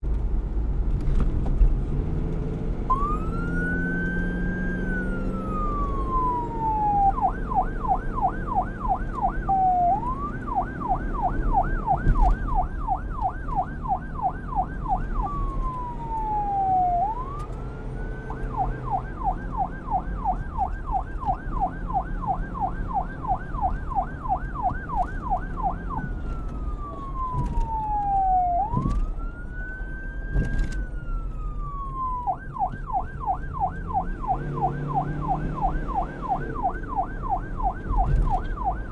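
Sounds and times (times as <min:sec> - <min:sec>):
police siren wailing and yelping: 0:02.9 - 0:38.9.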